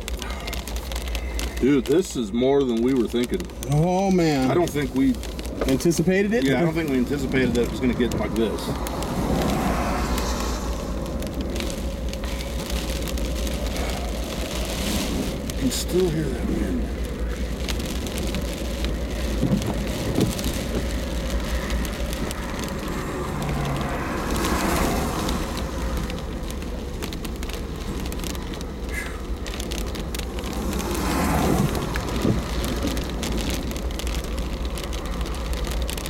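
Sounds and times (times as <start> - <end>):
low wind rumble: 0.0 - 36.0
raindrops spattering: 0.0 - 36.0.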